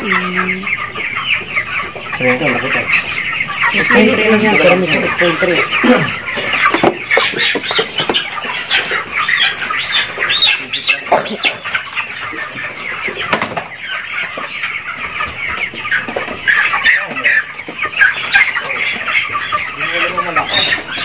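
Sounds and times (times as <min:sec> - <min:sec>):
chickens clucking and squawking: 0:00.0 - 0:21.0.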